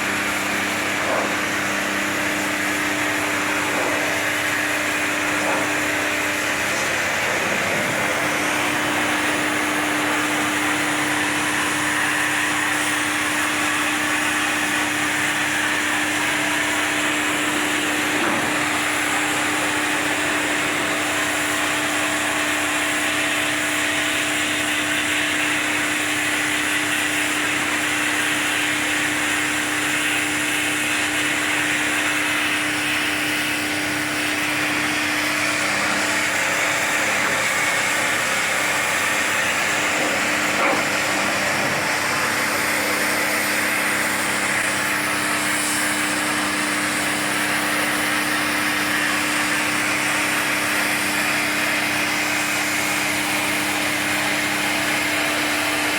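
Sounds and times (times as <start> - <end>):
pressure washer pump humming: 0.0 - 55.9
water jet hissing on metal coils: 0.0 - 55.9.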